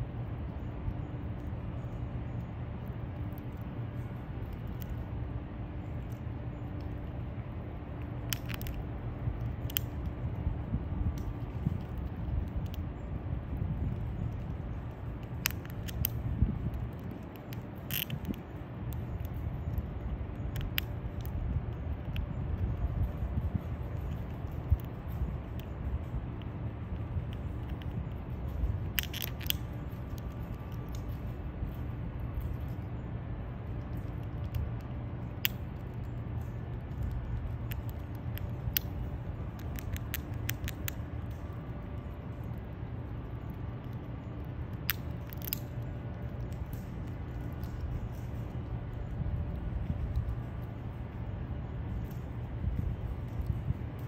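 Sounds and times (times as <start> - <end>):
low background rumble: 0.0 - 54.0
squirrel gnawing a nut shell: 0.0 - 54.0.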